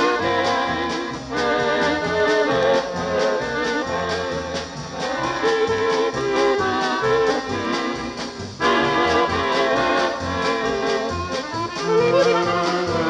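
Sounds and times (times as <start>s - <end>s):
polka band playing: 0.0s - 13.0s.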